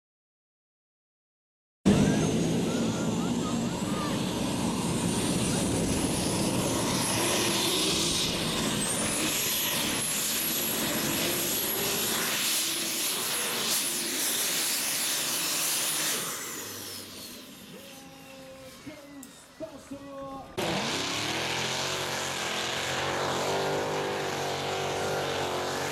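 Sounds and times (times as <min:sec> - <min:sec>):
engine running flat out: 0:01.9 - 0:19.3, 0:20.6 - 0:25.9
high whine winding down: 0:01.9 - 0:25.9.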